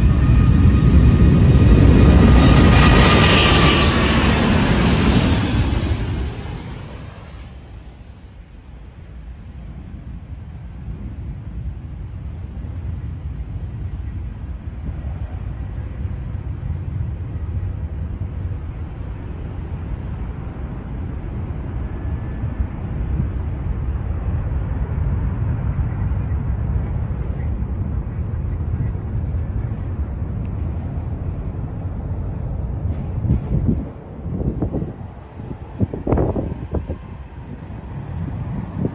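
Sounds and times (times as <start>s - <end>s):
jet engines rumbling during takeoff: 0.0s - 38.9s.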